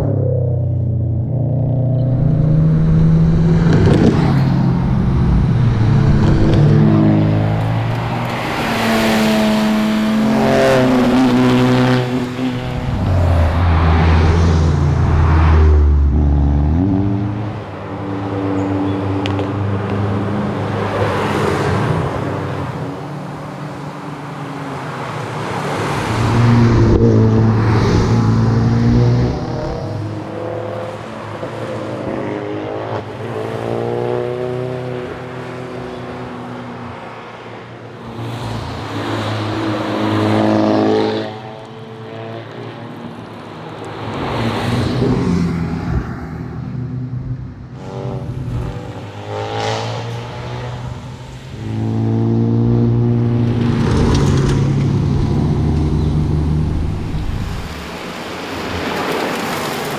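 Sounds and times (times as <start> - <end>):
cars revving past: 0.0 - 23.9, 24.8 - 59.9.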